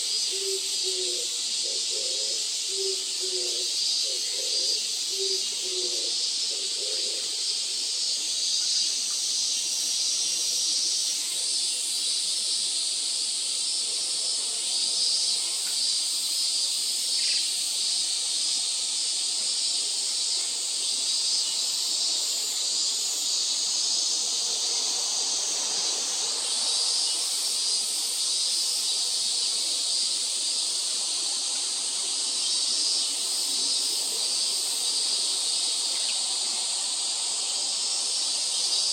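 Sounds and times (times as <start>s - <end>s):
high-pitched outdoor hiss: 0.0s - 38.9s.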